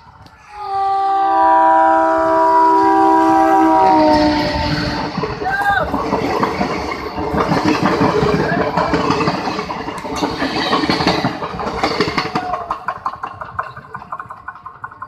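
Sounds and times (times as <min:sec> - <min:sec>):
passenger train on track: 0:00.0 - 0:15.0.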